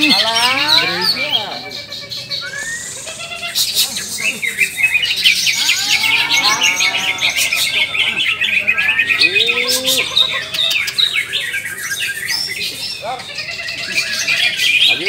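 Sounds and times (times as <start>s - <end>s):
chorus of birds singing: 0.0s - 15.0s.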